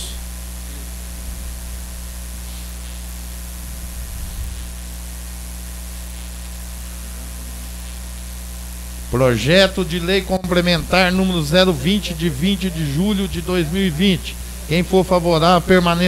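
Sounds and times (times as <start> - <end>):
constant hiss: 0.0 - 16.0
electrical mains hum: 0.0 - 16.0.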